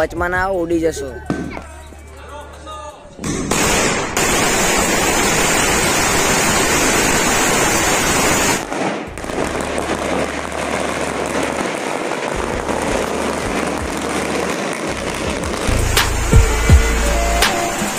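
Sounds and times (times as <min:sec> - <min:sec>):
firecrackers crackling: 0:01.4 - 0:17.9
distant firecracker crackle: 0:03.2 - 0:17.9.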